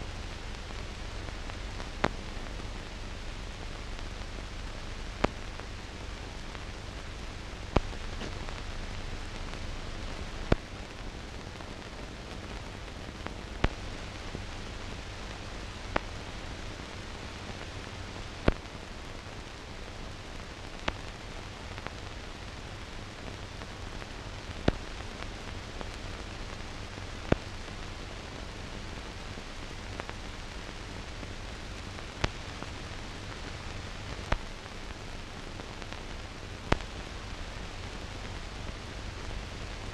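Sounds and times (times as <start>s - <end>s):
steady film hiss: 0.0s - 39.9s.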